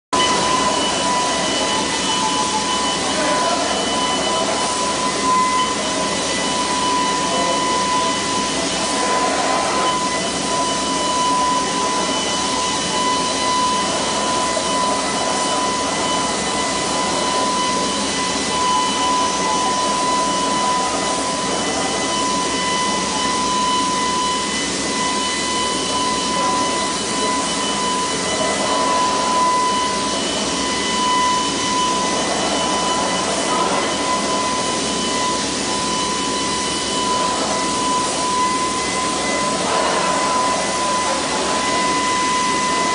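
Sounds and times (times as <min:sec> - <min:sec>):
paint sprayer turbine whine: 0:00.1 - 0:42.9.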